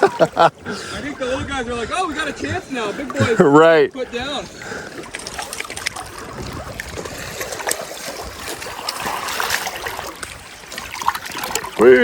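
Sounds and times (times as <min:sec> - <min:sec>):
river water trickling: 0:00.0 - 0:12.0.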